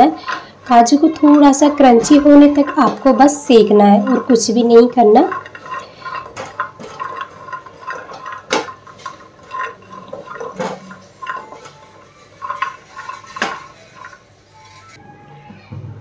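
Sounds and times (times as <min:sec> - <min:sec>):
nuts rattling in a pan: 0:00.0 - 0:15.0
spatula scraping a pan: 0:00.0 - 0:15.0.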